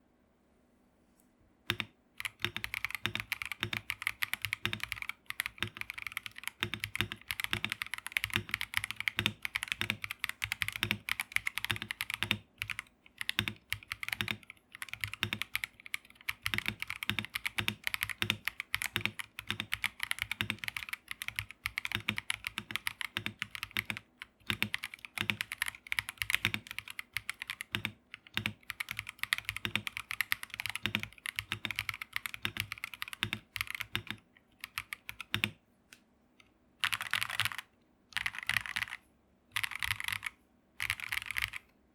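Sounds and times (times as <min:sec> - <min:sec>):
fast mechanical keyboard typing: 0:01.7 - 0:35.6, 0:36.8 - 0:41.7.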